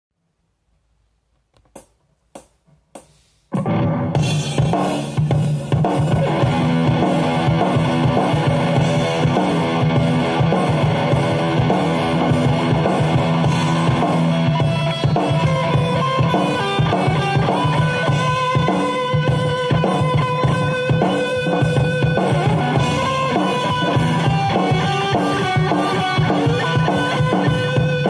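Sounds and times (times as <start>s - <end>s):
drum backing track: 1.5s - 28.0s
electric guitar riff: 3.5s - 28.0s.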